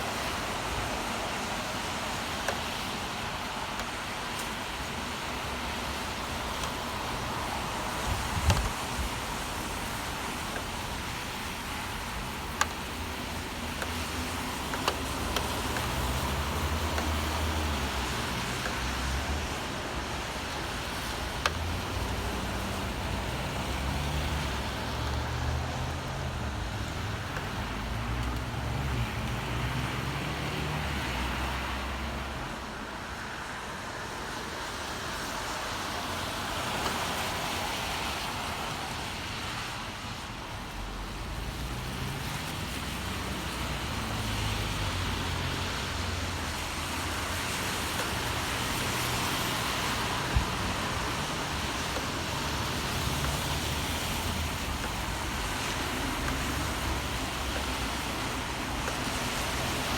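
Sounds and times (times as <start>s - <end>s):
road traffic rumbling: 0.0s - 59.9s
steady rain hiss: 0.0s - 59.9s.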